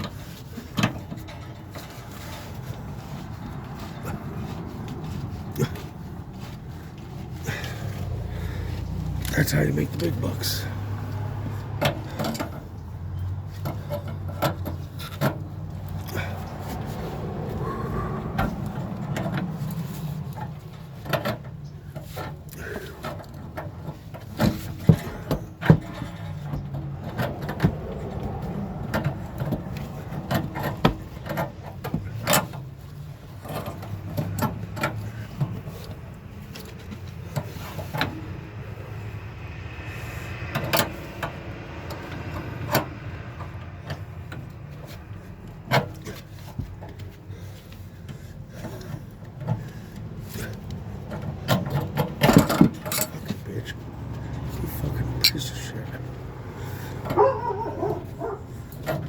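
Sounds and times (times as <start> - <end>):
hand tools and metal parts clinking: 0.0 - 59.0.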